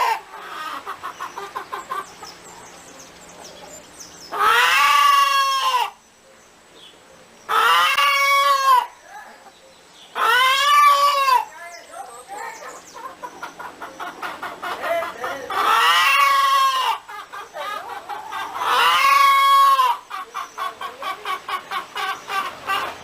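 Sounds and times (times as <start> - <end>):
hen cackling: 0.0 - 2.8, 3.4 - 6.0, 7.5 - 9.5, 10.1 - 23.0.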